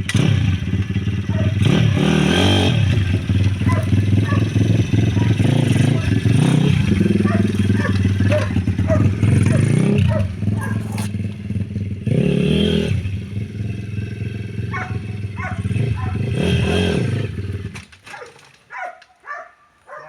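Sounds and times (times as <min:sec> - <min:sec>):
motorbike engine revving: 0:00.0 - 0:18.2.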